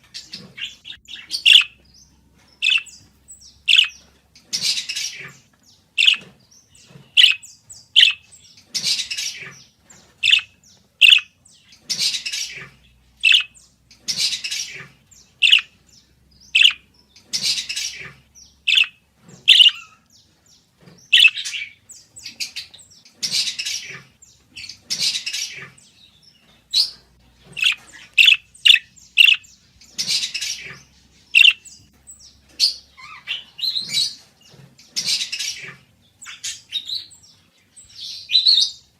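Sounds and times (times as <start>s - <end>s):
parakeet chirping and squawking: 0.0s - 15.8s, 16.4s - 20.2s, 21.0s - 34.2s, 34.8s - 37.2s.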